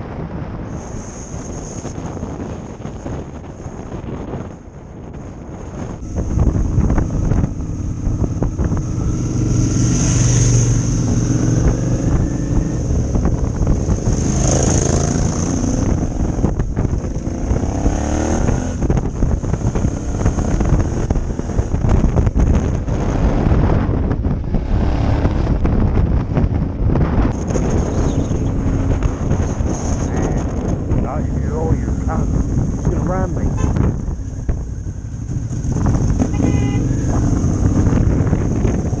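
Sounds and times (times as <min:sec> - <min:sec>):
wind rush: 0:00.0 - 0:39.0
motorcycle engine accelerating: 0:01.4 - 0:39.0.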